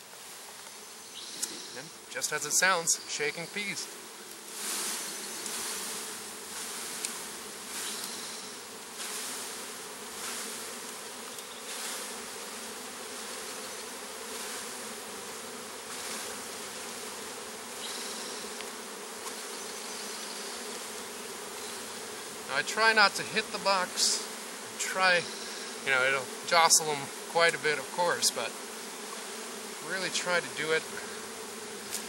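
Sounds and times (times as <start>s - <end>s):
honeybees buzzing: 0.0s - 32.0s
rushing hiss of shaken bees: 0.0s - 32.0s.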